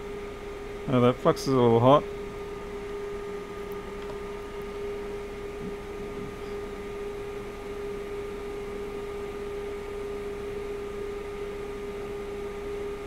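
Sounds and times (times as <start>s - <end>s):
steady mid-pitched hum: 0.0s - 13.0s.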